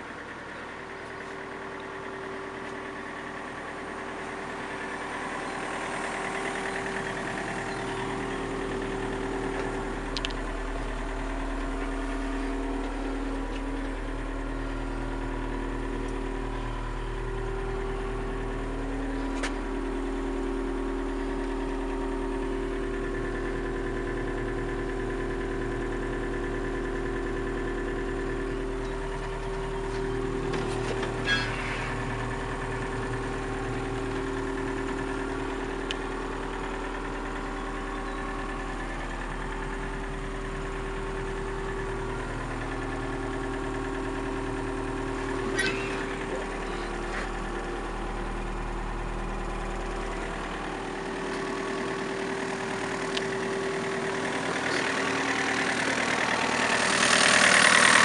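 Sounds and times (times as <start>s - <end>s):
excavator diesel engine idling: 0.0s - 58.0s.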